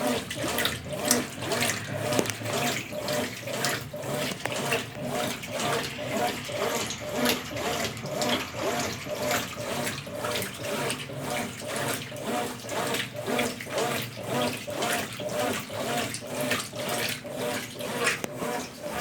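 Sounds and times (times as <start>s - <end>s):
washing machine churning water: 0.0s - 19.0s.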